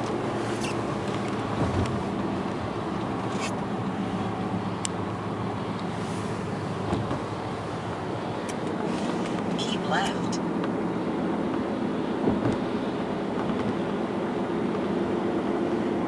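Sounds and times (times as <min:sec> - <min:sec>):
road and engine rumble in car: 0:00.0 - 0:16.0.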